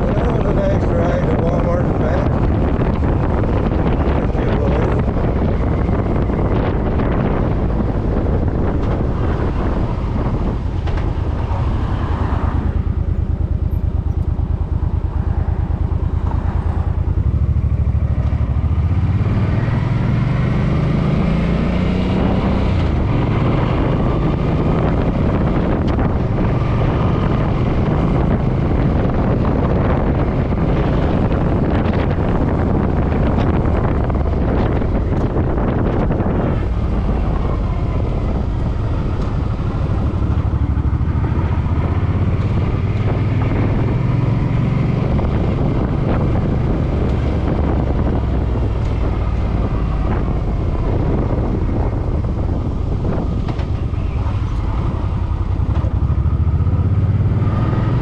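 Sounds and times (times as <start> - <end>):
motorcycle engine running: 0.0 - 21.2, 22.1 - 58.0
wind buffeting microphone: 0.0 - 58.0.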